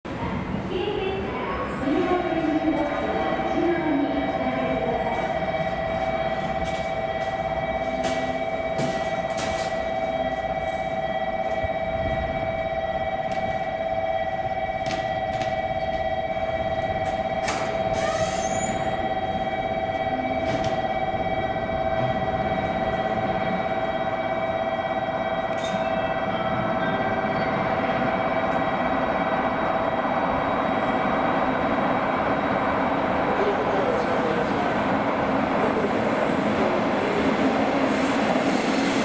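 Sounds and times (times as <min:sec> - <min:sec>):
distant train clacks and rumble: 0:00.1 - 0:10.5, 0:11.4 - 0:18.0, 0:19.1 - 0:39.0.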